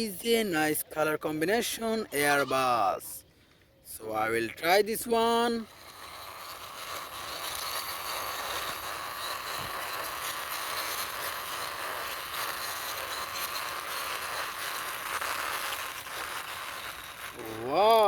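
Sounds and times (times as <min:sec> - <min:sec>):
toy wheels rolling on ground: 0:00.6 - 0:03.2, 0:03.9 - 0:18.0.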